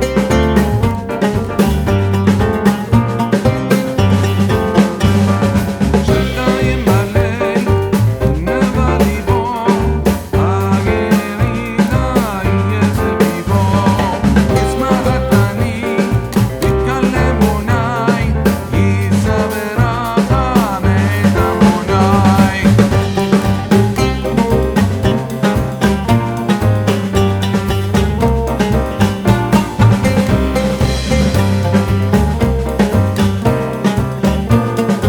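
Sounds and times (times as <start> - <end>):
background music with drum beat: 0.0 - 35.0.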